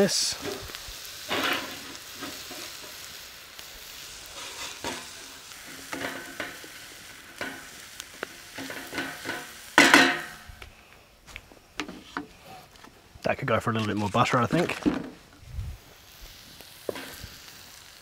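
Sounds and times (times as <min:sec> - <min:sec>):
vegetables sizzling in butter: 0:00.0 - 0:10.6, 0:13.5 - 0:18.0.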